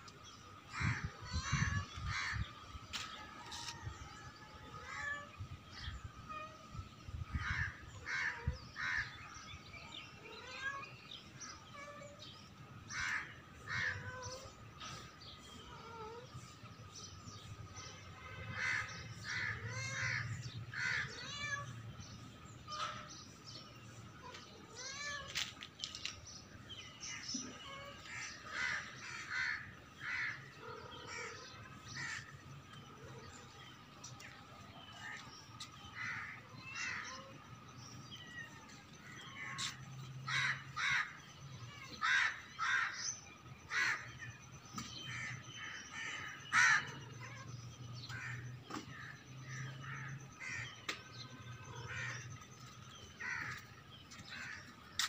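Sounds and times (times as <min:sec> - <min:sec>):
birds calling: 0:00.0 - 0:55.0.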